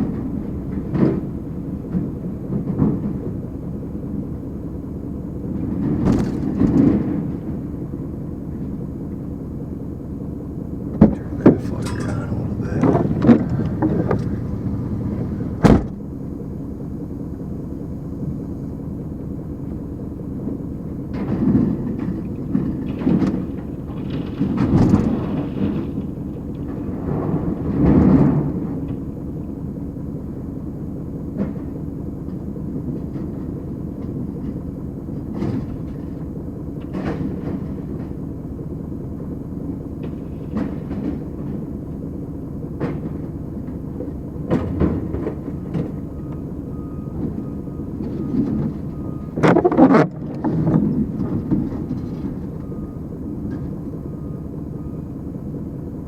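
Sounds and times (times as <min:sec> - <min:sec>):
car crusher mechanical rumble: 0:08.6 - 0:56.0.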